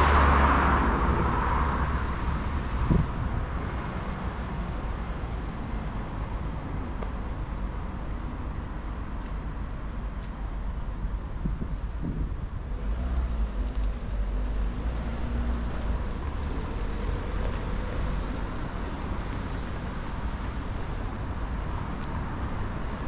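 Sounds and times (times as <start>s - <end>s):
road traffic noise: 0.0s - 23.0s
vehicle engine rumbling: 0.0s - 23.0s.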